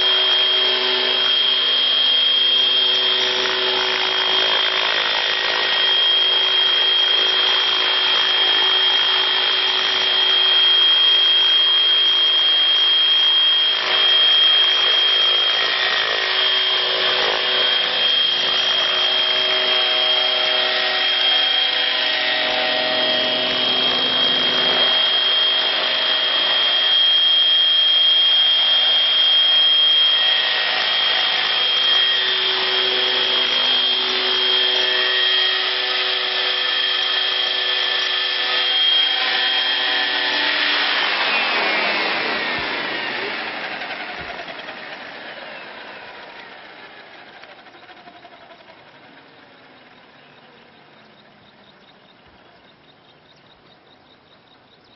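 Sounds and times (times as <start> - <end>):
model helicopter whine: 0.0 - 54.9.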